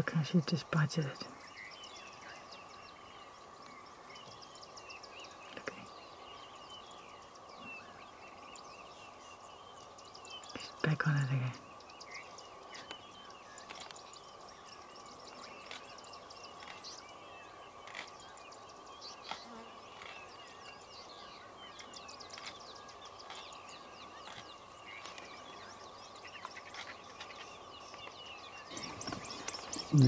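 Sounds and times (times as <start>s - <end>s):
faint bird chirping: 0.0s - 30.0s.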